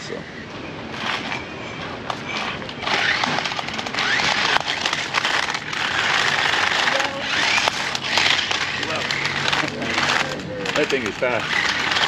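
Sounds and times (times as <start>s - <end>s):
toy car electric motors whining: 0.9s - 12.0s
wheels rattling on paving: 1.0s - 12.0s.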